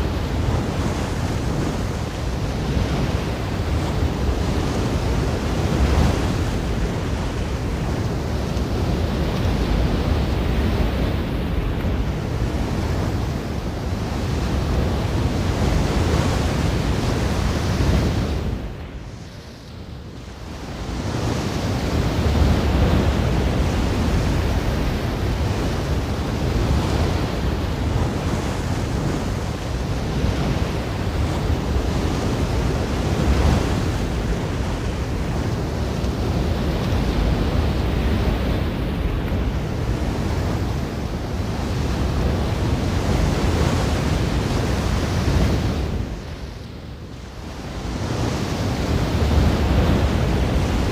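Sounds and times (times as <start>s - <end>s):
ocean waves washing in: 0.0s - 50.9s.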